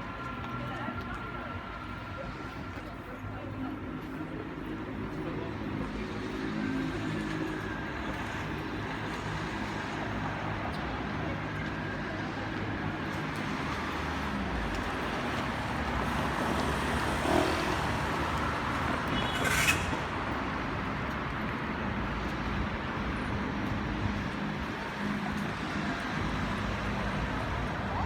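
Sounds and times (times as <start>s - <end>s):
car engines and tyres humming: 0.0s - 28.0s.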